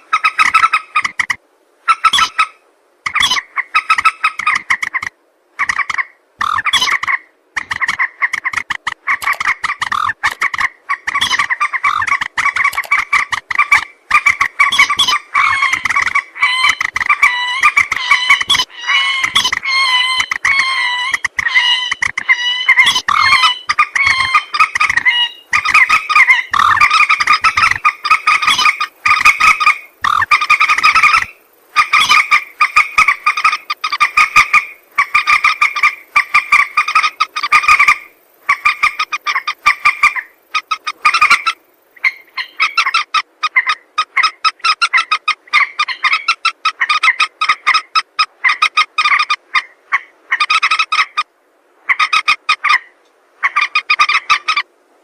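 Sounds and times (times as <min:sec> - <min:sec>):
moorhen chattering calls: 0:00.0 - 0:51.3, 0:51.9 - 0:54.7.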